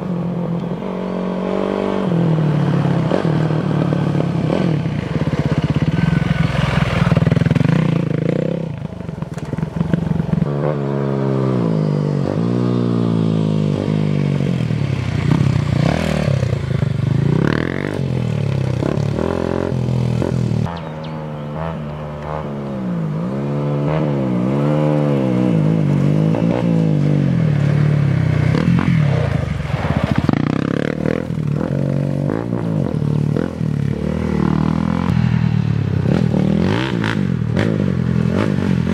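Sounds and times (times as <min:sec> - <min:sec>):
off-road motorcycle engines revving: 0:00.0 - 0:38.9.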